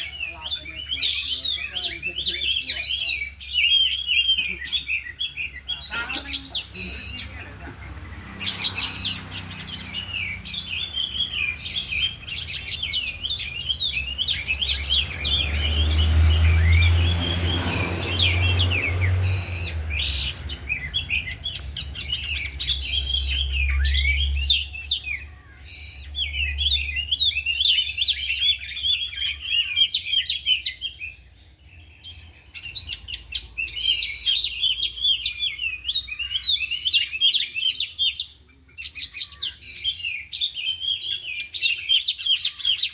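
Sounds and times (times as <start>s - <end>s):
birds singing: 0.0s - 42.9s.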